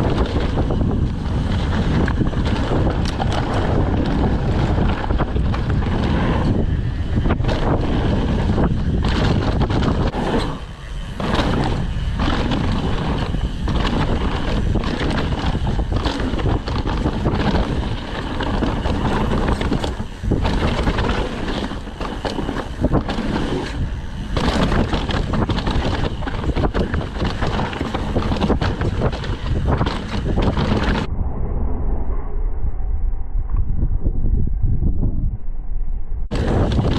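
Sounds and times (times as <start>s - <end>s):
bike knocks and rattles: 0.0s - 31.1s, 36.3s - 36.9s
tyre noise rushing: 0.0s - 31.1s, 36.3s - 36.9s
wind buffeting microphone: 0.0s - 36.9s.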